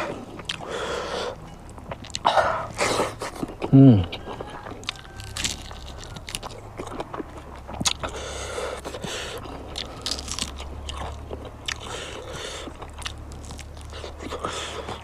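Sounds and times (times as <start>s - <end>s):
chewing and crunching food: 0.0s - 15.0s
low steady hum: 0.0s - 15.0s.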